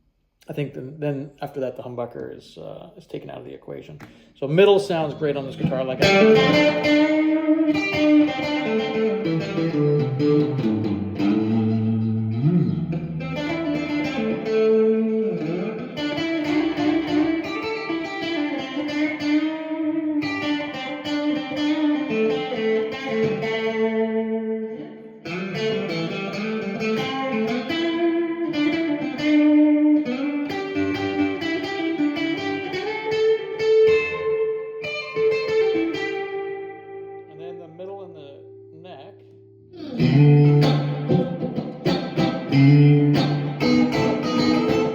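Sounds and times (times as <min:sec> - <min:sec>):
electric guitar playing: 0:04.1 - 0:44.9.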